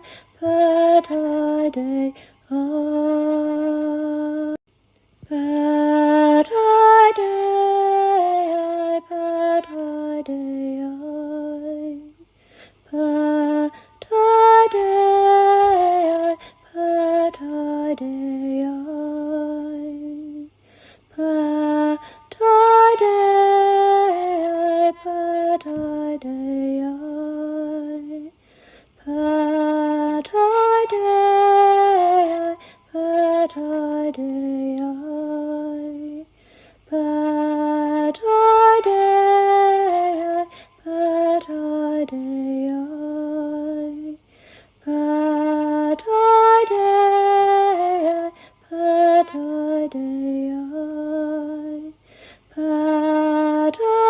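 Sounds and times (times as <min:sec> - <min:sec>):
woman singing unaccompanied: 0:00.0 - 0:54.0.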